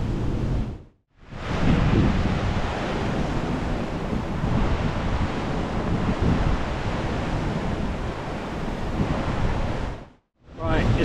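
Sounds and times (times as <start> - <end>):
wind on microphone: 0.0 - 11.0
sea swell on rocky shore: 1.2 - 11.0.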